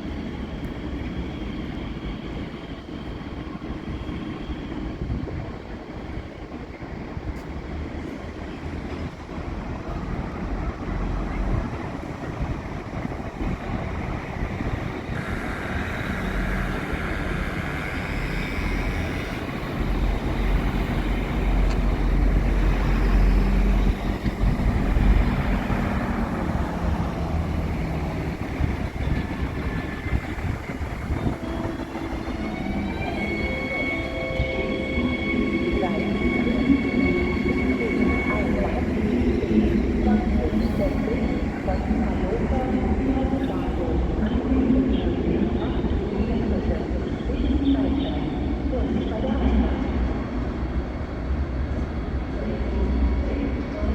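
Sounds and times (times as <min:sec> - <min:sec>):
train rumble: 0:00.0 - 0:53.9.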